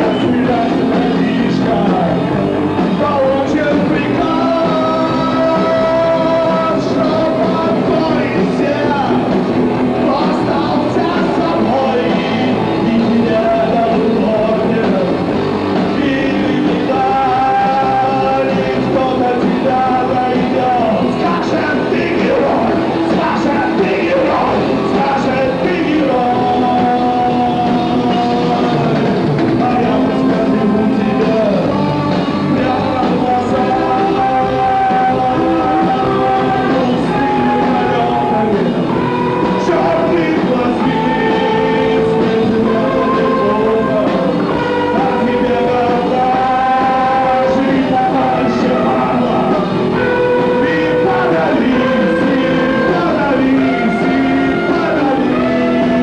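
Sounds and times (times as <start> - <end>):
electric guitar: 0.0 - 56.0
man singing into a microphone: 0.0 - 56.0
rock band playing: 0.0 - 56.0.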